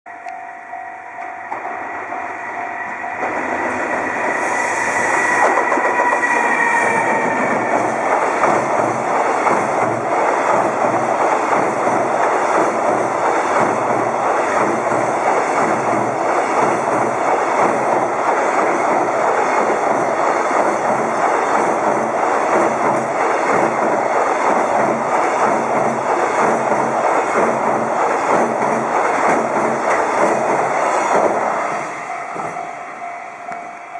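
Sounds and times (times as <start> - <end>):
electric locomotive whine: 0.1 - 33.9.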